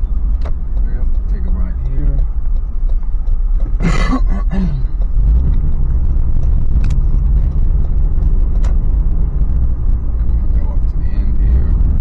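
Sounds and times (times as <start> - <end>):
vehicle cabin low rumble: 0.0 - 12.0.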